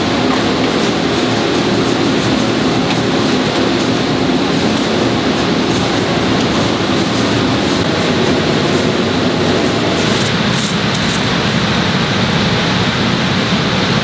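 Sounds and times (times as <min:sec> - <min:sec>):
factory machinery and ventilation: 0:00.0 - 0:14.0.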